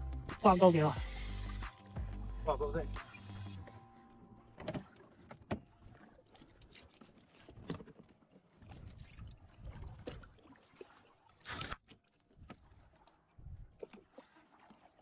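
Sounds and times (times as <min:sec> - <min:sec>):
low rumble of water and wind: 0:00.0 - 0:15.0.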